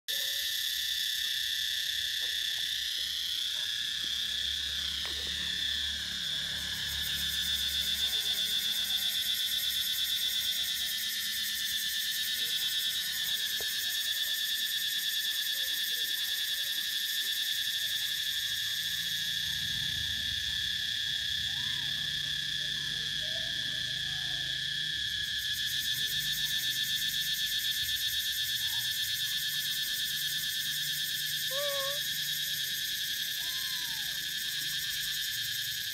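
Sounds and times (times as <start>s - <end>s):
high-pitched insect chorus: 0.1s - 35.9s.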